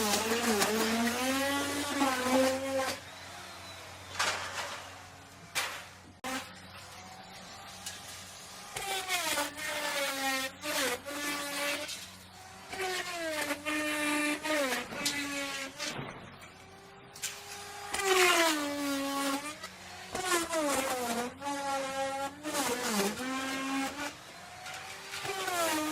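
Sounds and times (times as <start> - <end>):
router bit rasping wood: 0.0 - 25.9
wood router motor whine: 0.0 - 25.9.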